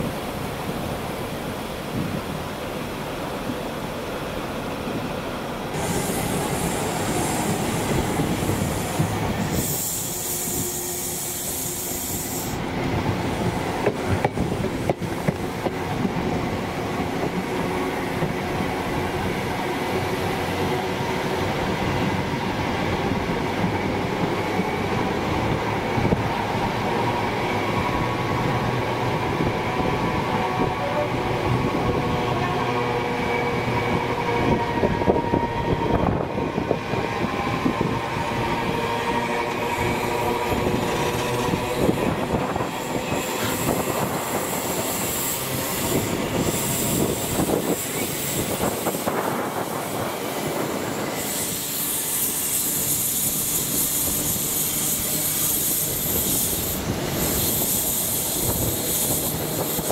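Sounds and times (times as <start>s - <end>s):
train rolling rumble: 0.0s - 59.9s.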